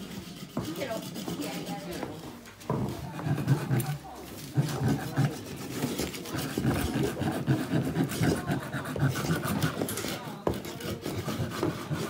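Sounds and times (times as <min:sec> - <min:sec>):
hand tools rasping on wood: 0:00.0 - 0:12.0.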